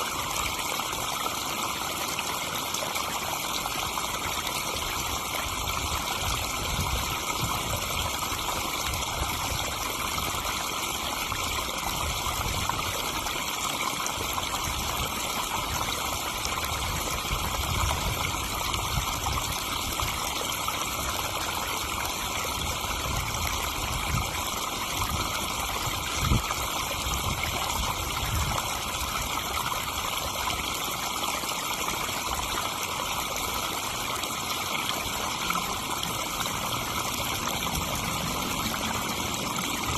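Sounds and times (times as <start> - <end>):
pond waterfall splashing: 0.0 - 39.9.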